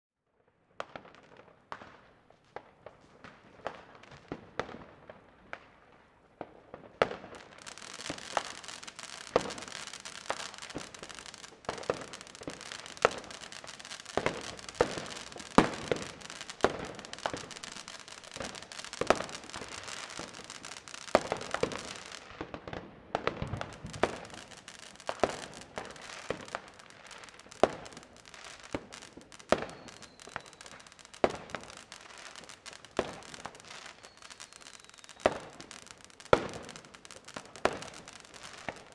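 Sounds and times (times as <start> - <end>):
firecrackers crackling: 6.4 - 38.9
firework bangs: 6.8 - 38.9.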